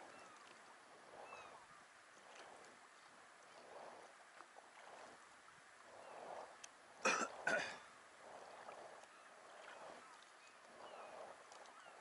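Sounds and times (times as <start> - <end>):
paddle strokes splashing: 0.0 - 12.0.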